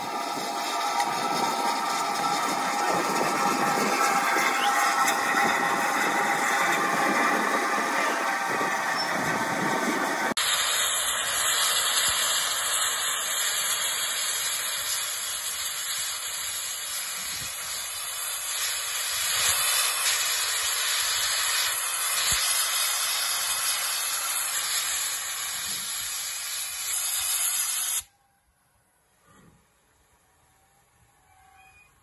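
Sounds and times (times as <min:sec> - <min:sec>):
steam hissing: 0:00.0 - 0:28.1.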